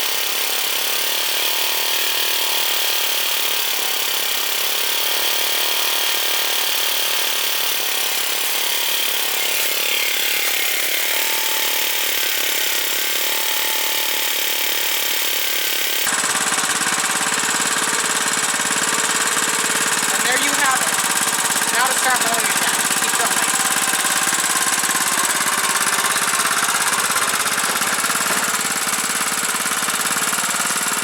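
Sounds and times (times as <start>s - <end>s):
lawnmower engine running: 0.0s - 31.0s.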